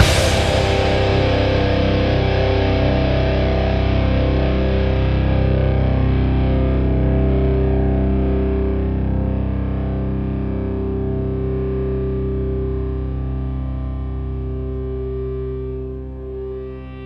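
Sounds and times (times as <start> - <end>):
distorted electric guitar chord: 0.0 - 17.0.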